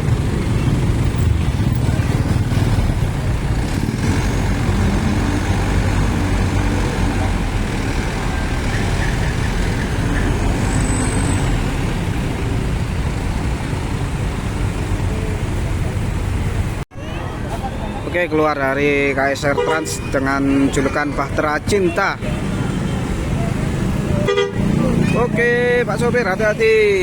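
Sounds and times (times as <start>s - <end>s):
bus engines and traffic rumble: 0.0s - 27.0s.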